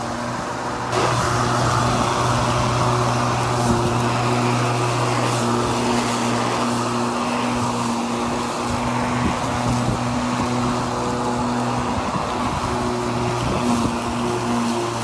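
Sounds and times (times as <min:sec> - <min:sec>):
blade cutting grass: 0:00.0 - 0:15.0
electric lawn mower hum: 0:00.0 - 0:15.0.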